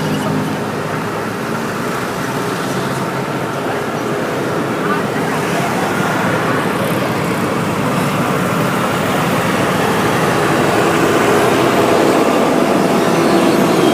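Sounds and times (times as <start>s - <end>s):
heavy vehicle engine and road noise: 0.0s - 13.9s.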